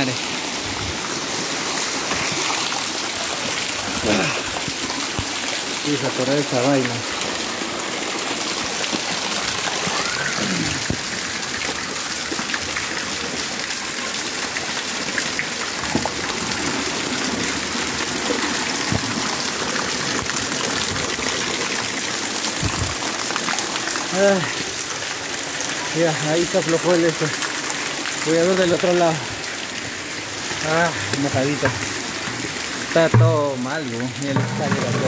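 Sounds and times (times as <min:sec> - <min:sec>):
heavy rain splashing on concrete: 0:00.0 - 0:35.0.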